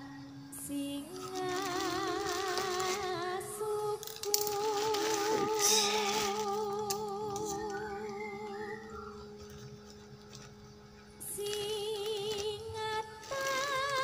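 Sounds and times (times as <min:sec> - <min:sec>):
slow melody of wavering notes: 0:00.0 - 0:14.0.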